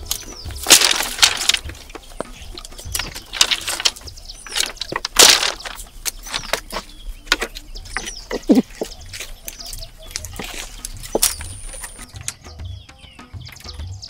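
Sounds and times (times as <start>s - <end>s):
scraping noises: 0.0s - 12.2s
knocks and clicks: 0.0s - 12.5s
birds calling: 0.0s - 14.0s.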